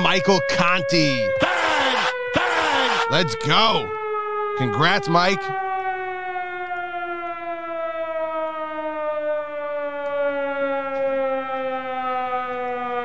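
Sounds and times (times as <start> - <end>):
air-raid siren winding down: 0.0 - 13.0.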